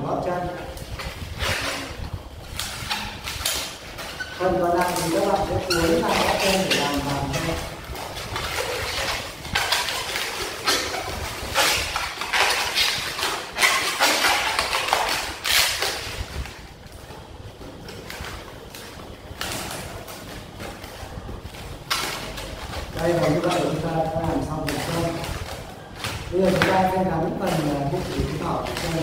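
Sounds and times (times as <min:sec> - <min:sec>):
balloons squeaking and rubbing: 0:00.2 - 0:29.0.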